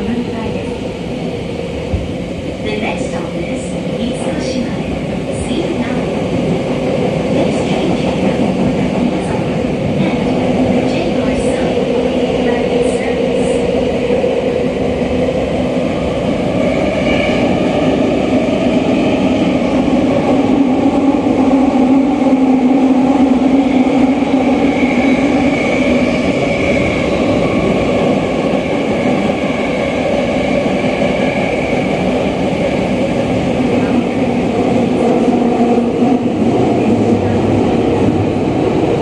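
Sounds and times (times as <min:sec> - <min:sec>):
subway train wheels rumbling on rail: 0:00.0 - 0:39.0.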